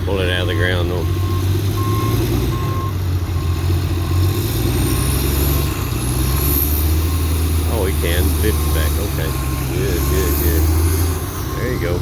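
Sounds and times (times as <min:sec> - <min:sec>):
diesel engine under load: 0:00.0 - 0:12.0
reversing alarm beeping: 0:00.4 - 0:12.0.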